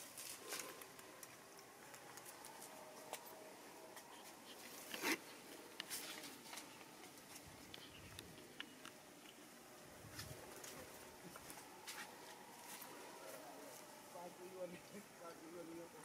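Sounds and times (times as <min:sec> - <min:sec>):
rustling among branches and leaves: 0:00.0 - 0:16.0.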